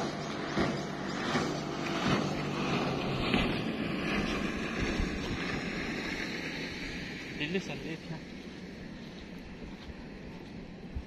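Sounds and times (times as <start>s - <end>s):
motorboat engine droning: 0.0s - 11.0s
wind buffeting microphone: 0.0s - 11.0s.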